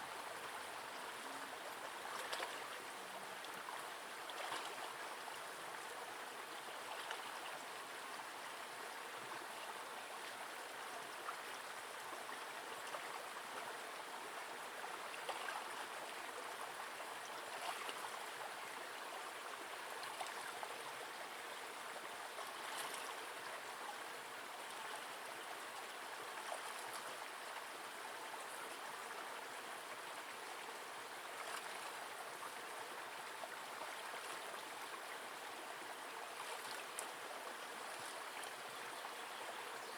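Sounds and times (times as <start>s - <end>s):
river water rushing and trickling: 0.0s - 39.9s.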